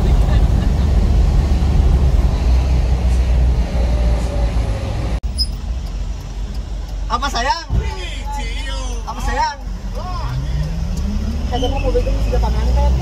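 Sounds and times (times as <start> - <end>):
deep engine rumble: 0.0 - 13.0
road noise: 0.0 - 13.0.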